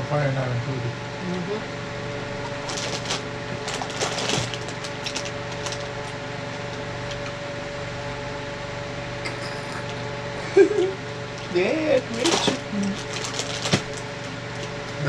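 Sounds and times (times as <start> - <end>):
mechanical room hum: 0.0 - 15.0.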